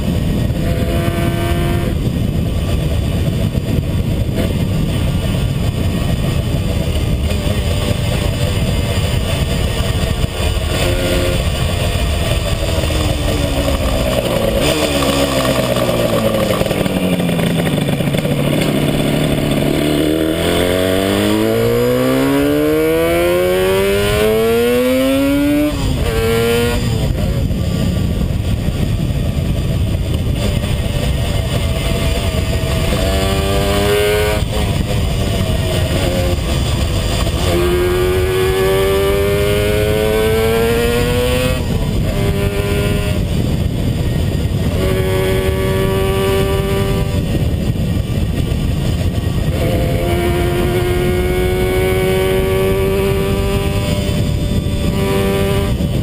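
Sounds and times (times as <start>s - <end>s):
motorcycle engine revving: 0.0s - 56.0s
wind rushing over microphone: 0.0s - 56.0s.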